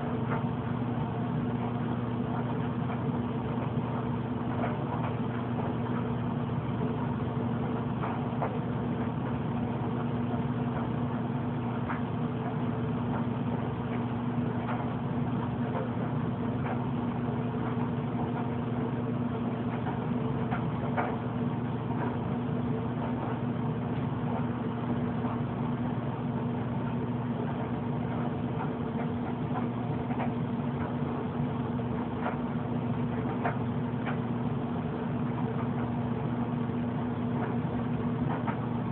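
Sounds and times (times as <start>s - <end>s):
steady machine hum: 0.0s - 38.9s.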